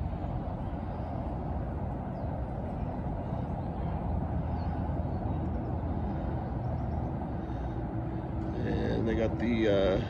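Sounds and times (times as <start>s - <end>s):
distant freeway traffic rumble: 0.0s - 10.0s.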